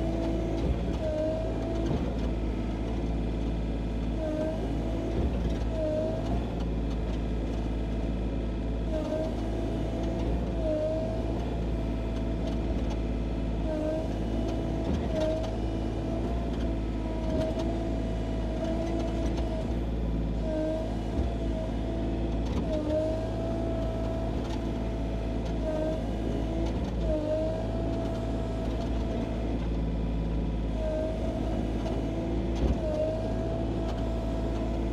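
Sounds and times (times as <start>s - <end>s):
mini excavator diesel engine running: 0.0s - 34.9s.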